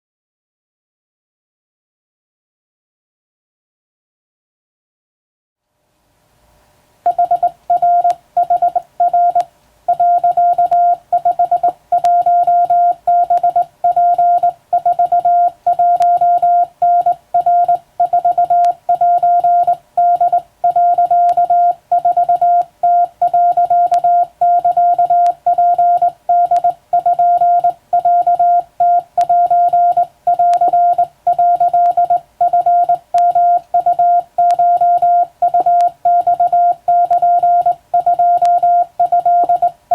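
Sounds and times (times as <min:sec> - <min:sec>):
morse code beeps: 0:07.1 - 0:39.8.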